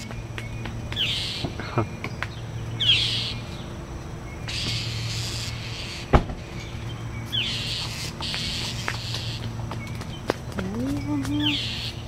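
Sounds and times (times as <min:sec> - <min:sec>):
birds calling raspily: 0:00.0 - 0:12.0.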